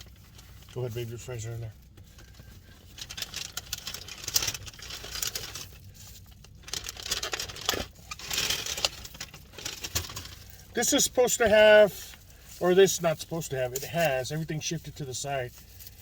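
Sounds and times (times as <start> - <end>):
paper bag and wrappers crinkling: 0.0 - 16.0.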